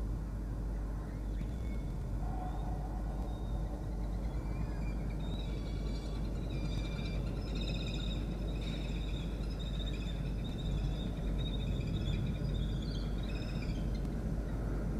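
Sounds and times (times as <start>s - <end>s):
low background rumble: 0.0s - 14.9s.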